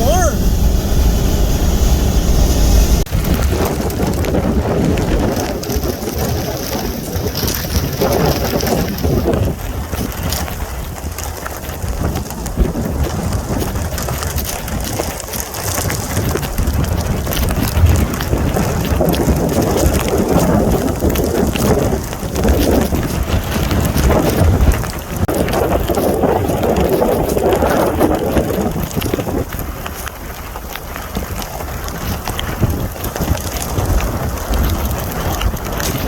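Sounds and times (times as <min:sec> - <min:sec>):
heavy rain in thunderstorm: 0:00.0 - 0:36.0.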